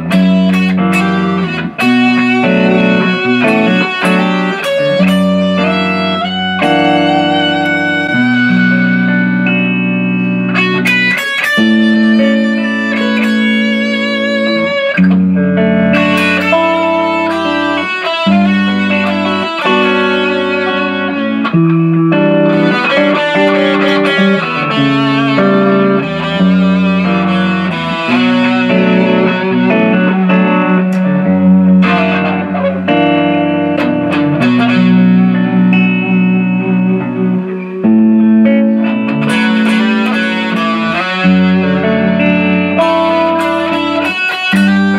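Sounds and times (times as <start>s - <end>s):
amplified electric guitar chords: 0.0s - 44.9s.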